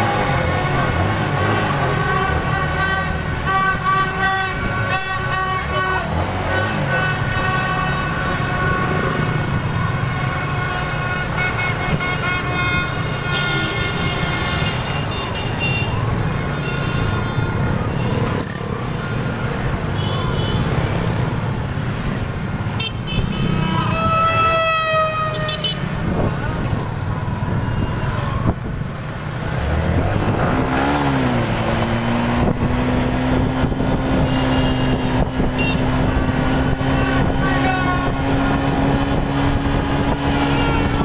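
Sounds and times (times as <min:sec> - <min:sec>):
horns honking: 0:00.0 - 0:18.6, 0:19.8 - 0:21.0, 0:22.7 - 0:28.5, 0:32.4 - 0:39.4, 0:40.0 - 0:41.0.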